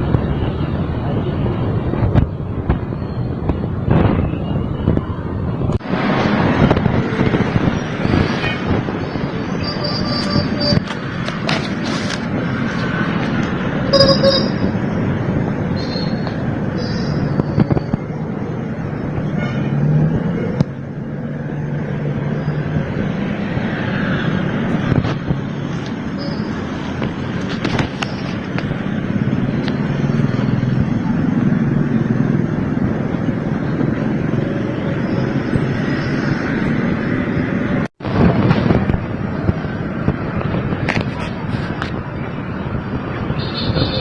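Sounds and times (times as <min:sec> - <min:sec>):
street traffic with engine hum: 0:00.0 - 0:44.0.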